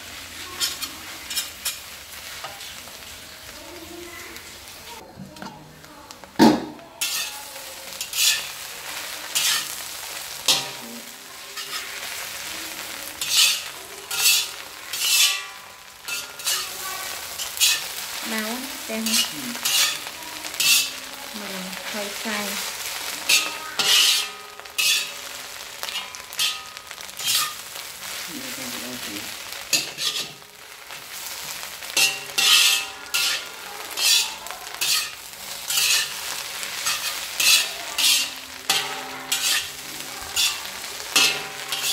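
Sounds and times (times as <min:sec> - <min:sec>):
spatula scraping a pan: 0:00.0 - 0:03.2, 0:07.0 - 0:41.9
food sizzling in a pan: 0:00.0 - 0:41.9.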